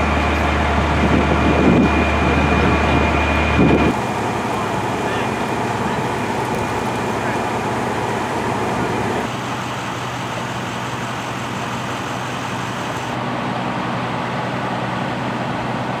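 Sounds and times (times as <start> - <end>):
street traffic noise: 0.0 - 16.0
vehicle engines idling: 0.0 - 16.0.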